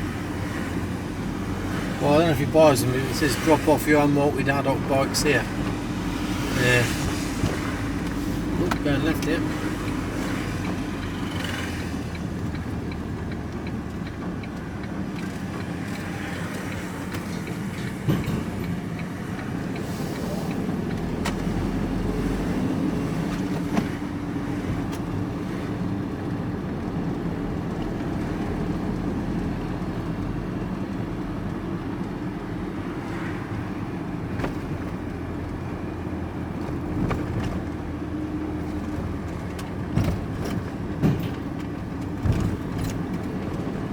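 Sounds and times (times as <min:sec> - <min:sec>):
engine hum and road noise: 0:00.0 - 0:43.9.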